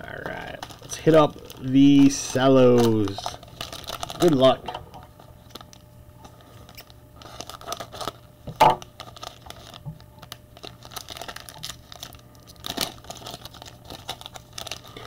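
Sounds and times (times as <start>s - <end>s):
cellophane wrapper crinkling and tearing: 0.0s - 15.0s.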